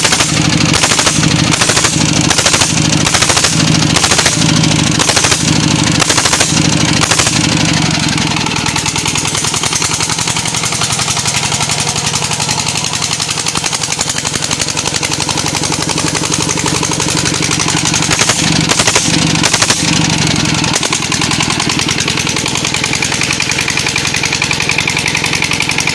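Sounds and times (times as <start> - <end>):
diesel engine chugging: 0.0 - 25.9.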